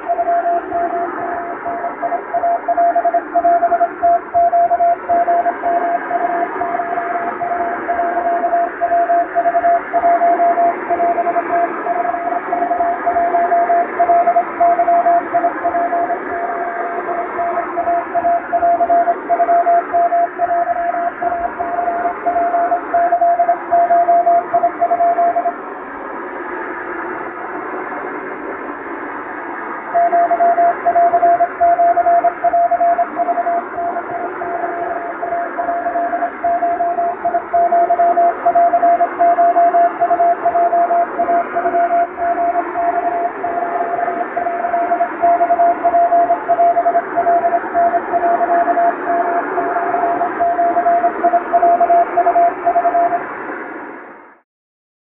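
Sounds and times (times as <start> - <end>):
morse code beeping: 0.0 - 25.6, 30.0 - 53.2.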